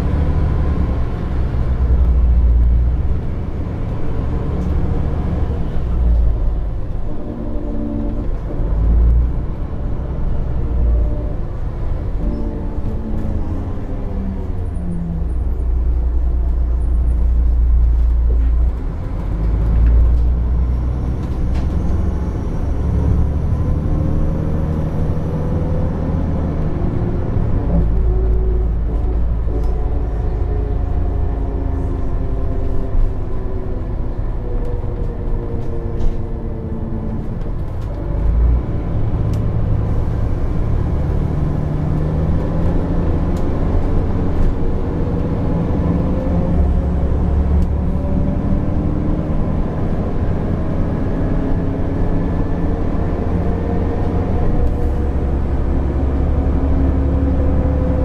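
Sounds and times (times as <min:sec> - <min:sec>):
bus engine rumble and whine: 0:00.0 - 0:58.0.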